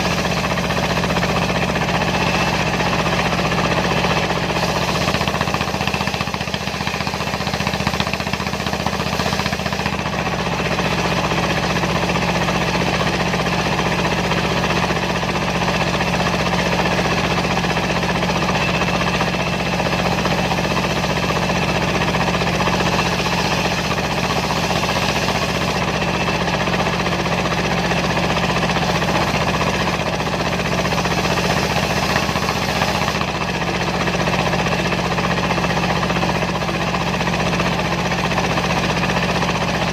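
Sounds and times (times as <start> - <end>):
circular sawmill cutting logs: 0.0 - 39.9
diesel engine knocking under load: 0.0 - 39.9.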